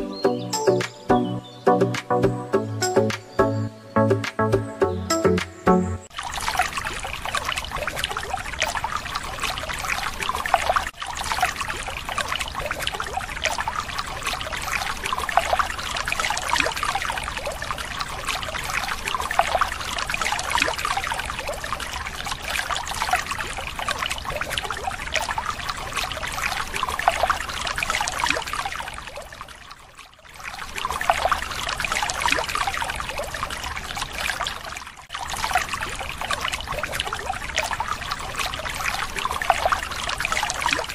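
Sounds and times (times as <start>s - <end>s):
water pouring into a tank: 6.1s - 40.9s.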